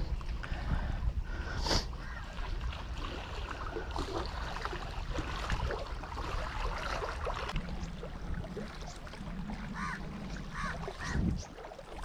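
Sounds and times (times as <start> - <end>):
wind buffeting microphone: 0.0 - 6.6, 7.5 - 12.0
small waves lapping on rocks: 1.7 - 12.0.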